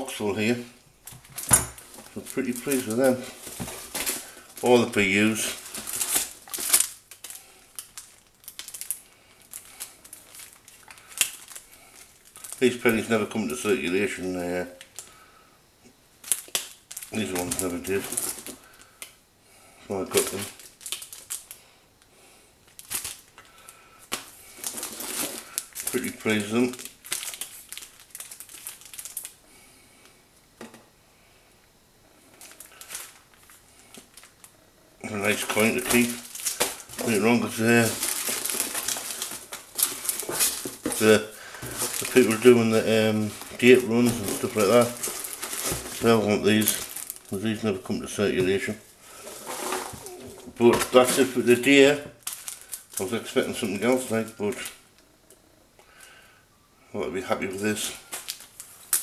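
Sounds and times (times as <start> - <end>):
plastic sleeves crinkling: 0.0 - 15.1, 16.2 - 19.2, 19.9 - 21.6, 22.6 - 29.4, 32.3 - 55.0, 57.2 - 59.0.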